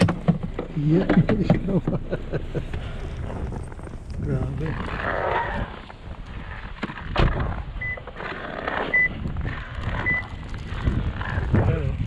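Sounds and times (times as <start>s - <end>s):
rustling windy background: 0.0s - 12.0s.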